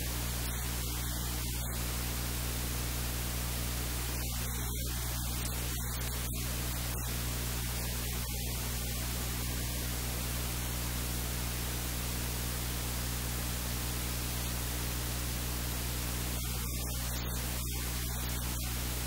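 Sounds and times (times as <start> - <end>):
low electrical hum: 0.0 - 19.0
static hiss: 0.0 - 19.0.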